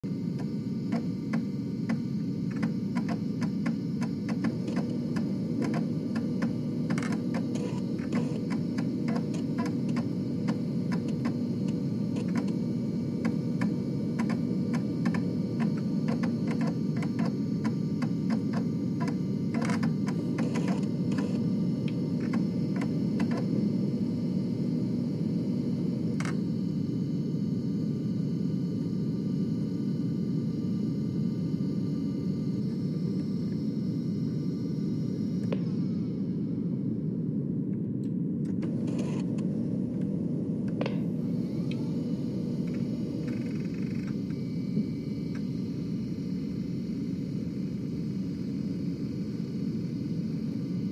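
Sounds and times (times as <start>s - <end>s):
floppy disk drive whirring: 0.0s - 50.9s.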